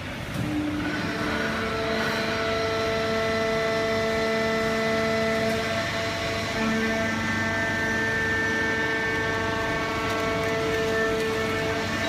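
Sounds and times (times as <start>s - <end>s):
hydraulic baler running: 0.0s - 12.0s
multi-tone machine whine: 0.0s - 12.0s.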